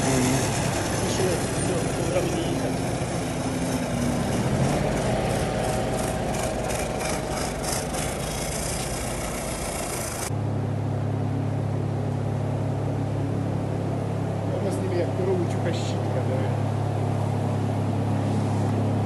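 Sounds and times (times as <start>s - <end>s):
diesel engine running: 0.0s - 19.0s
low machine hum: 0.0s - 19.0s.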